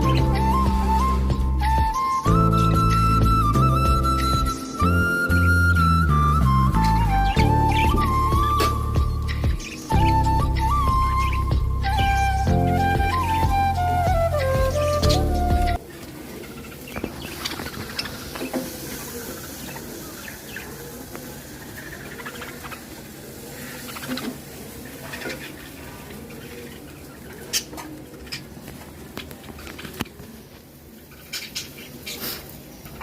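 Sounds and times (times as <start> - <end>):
budgies chirping: 0.0 - 29.9, 31.0 - 33.0.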